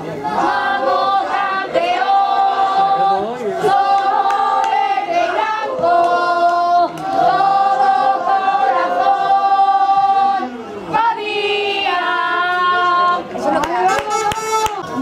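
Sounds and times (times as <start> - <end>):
group of voices chanting: 0.2 - 13.7.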